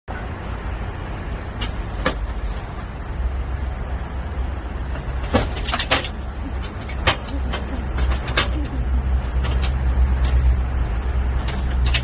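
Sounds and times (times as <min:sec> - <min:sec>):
low traffic rumble: 0:00.1 - 0:12.0.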